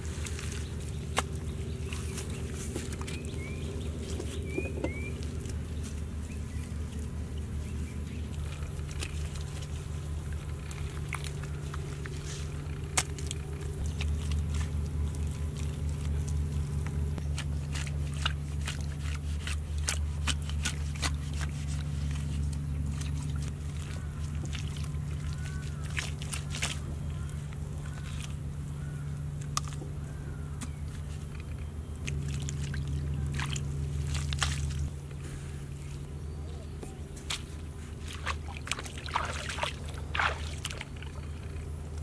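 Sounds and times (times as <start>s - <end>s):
steady low hum: 0.0s - 42.0s
hands slapping wet mud: 0.1s - 7.2s, 8.3s - 28.4s, 29.3s - 31.2s, 32.0s - 34.9s, 36.6s - 42.0s.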